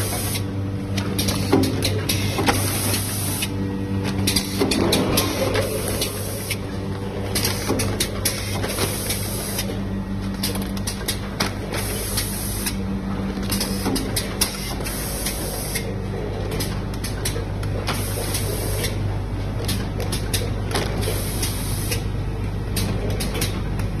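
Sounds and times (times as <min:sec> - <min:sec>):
conveyor belt running: 0:00.0 - 0:24.0
machine humming: 0:00.0 - 0:24.0.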